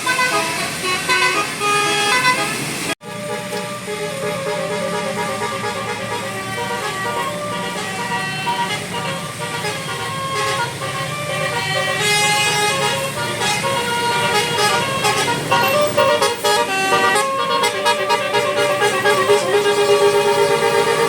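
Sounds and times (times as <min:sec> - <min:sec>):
bus engine hum: 0:00.0 - 0:21.0
multi-tone bus horn melody: 0:00.0 - 0:21.0.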